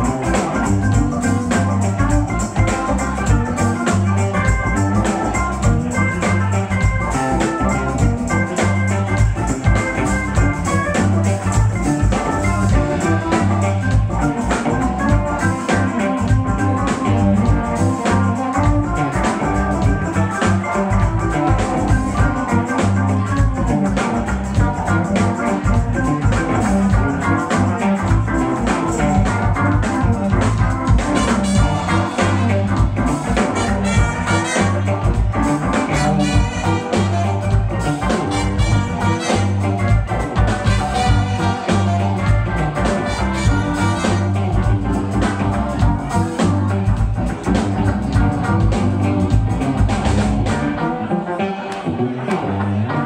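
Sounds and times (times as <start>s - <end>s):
live funk band playing: 0.0s - 53.0s.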